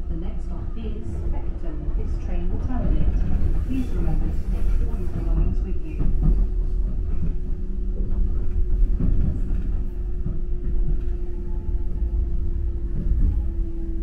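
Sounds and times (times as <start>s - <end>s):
train motor hum: 0.0s - 14.0s
train rumble inside carriage: 0.0s - 14.0s.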